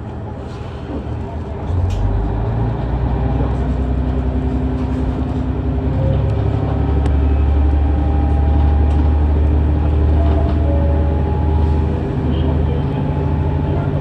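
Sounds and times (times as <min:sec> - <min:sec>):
railcar diesel engine drone: 0:00.0 - 0:14.0.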